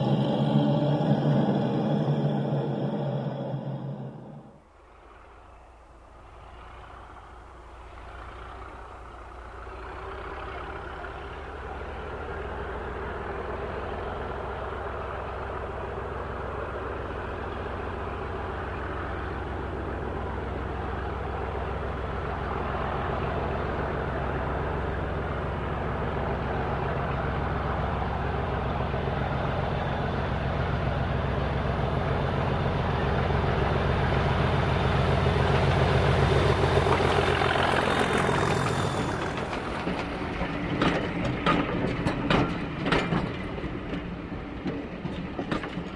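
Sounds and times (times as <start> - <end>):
model diesel train engine drone: 0.0 - 45.9.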